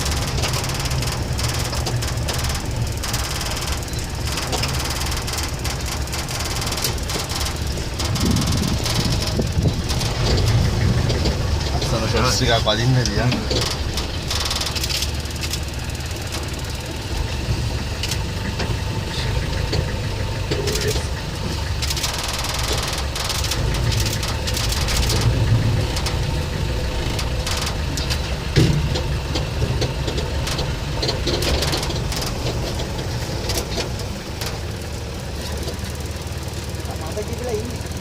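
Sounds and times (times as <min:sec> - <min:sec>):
short clicks and crackles: 0:00.0 - 0:17.1, 0:20.5 - 0:34.7
vehicle engine idling: 0:00.0 - 0:38.0.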